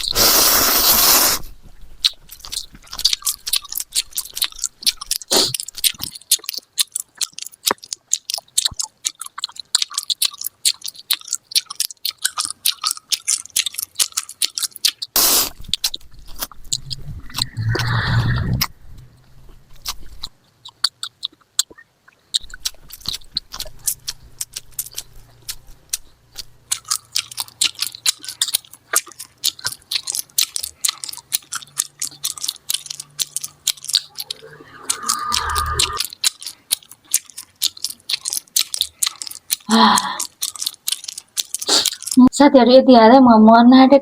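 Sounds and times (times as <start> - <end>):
person chewing and biting food: 0.0 - 42.2.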